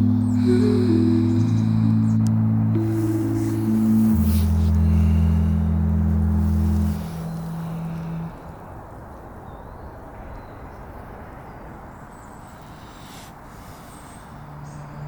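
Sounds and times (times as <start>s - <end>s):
low rumble of wind or traffic: 0.0s - 15.0s.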